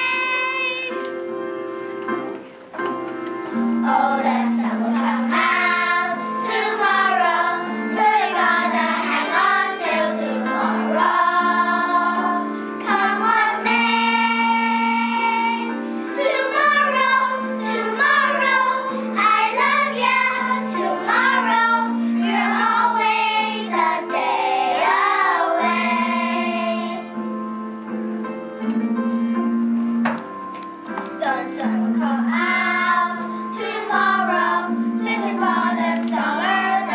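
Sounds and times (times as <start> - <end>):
children singing: 0.0 - 1.0, 3.8 - 27.1, 31.2 - 36.9
instrumental accompaniment: 0.0 - 36.9.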